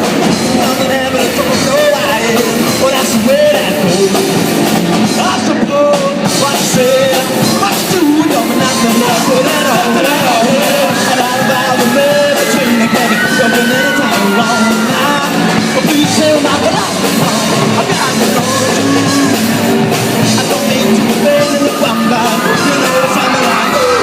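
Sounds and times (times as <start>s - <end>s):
person singing: 0.0s - 24.0s
rock band playing live: 0.0s - 24.0s.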